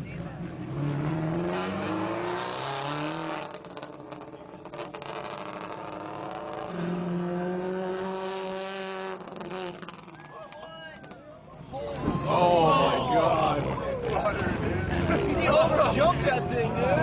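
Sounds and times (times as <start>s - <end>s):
rally car engine at high revs: 0.1s - 10.2s, 13.4s - 17.0s.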